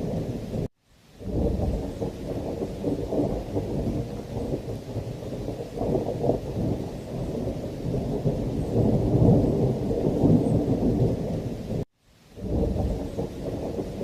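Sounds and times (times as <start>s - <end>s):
rolling thunder: 0.0s - 11.8s, 12.4s - 14.0s
heavy rain: 0.0s - 14.0s.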